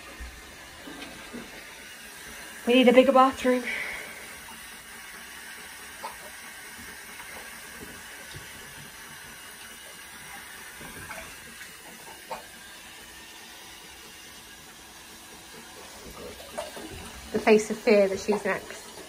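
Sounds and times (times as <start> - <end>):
shower spraying water on dog: 0.0 - 19.0.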